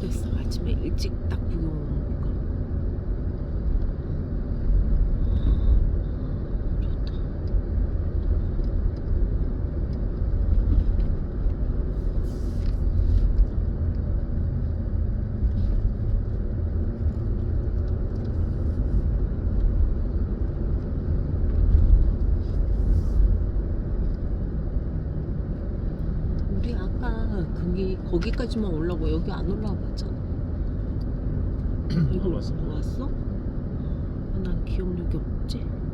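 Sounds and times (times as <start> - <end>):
car driving rumble: 0.0 - 35.9.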